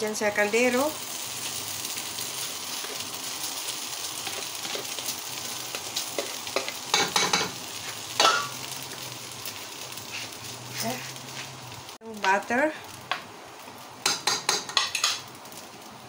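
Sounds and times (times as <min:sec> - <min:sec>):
noodles sizzling in hot pot: 0:00.0 - 0:16.0.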